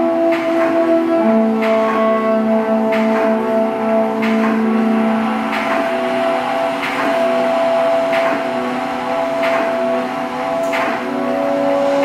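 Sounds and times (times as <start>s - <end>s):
layered drone tones: 0.0s - 12.0s.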